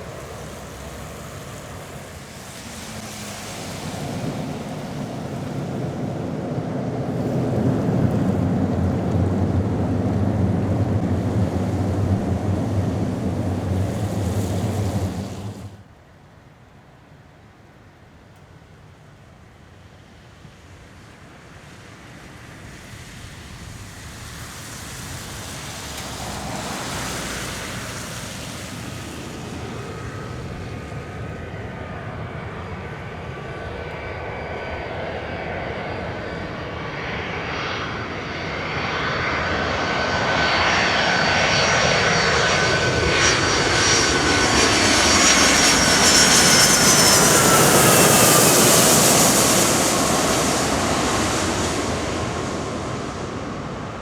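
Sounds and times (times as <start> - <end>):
jet airliner engine whine: 0.0 - 54.0.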